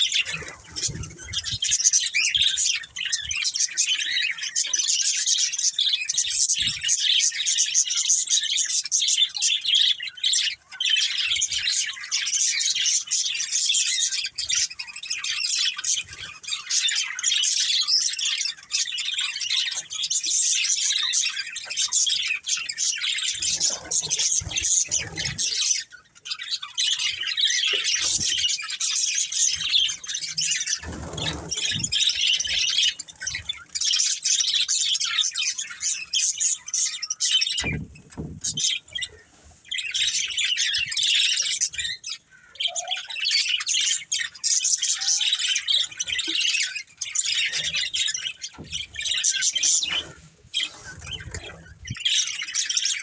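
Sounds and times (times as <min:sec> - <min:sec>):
budgerigars chirping: 0:00.0 - 0:53.0.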